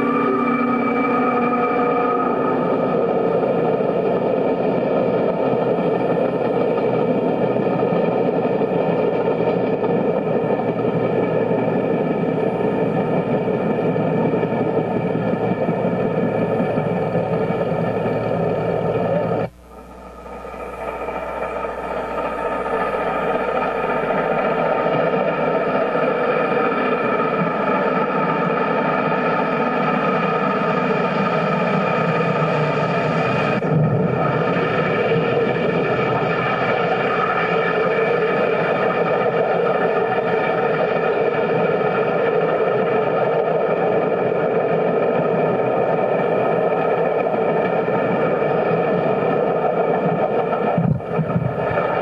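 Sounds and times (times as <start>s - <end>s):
steam locomotive running: 0.0s - 19.5s, 20.2s - 52.0s.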